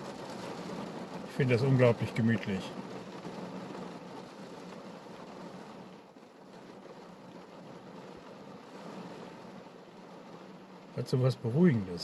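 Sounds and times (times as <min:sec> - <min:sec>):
rain on car roof: 0:00.0 - 0:12.0.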